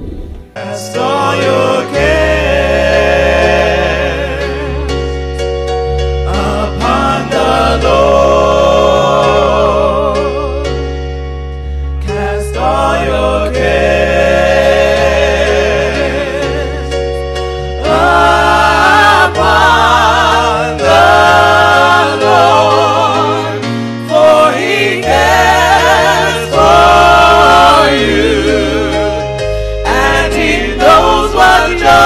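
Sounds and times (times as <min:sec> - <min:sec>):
gospel voices singing: 0:00.0 - 0:32.0
sustained low chords: 0:00.0 - 0:32.0.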